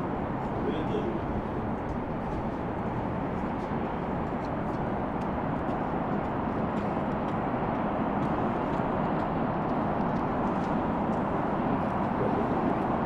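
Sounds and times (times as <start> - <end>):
heavy traffic hum: 0.0 - 13.0.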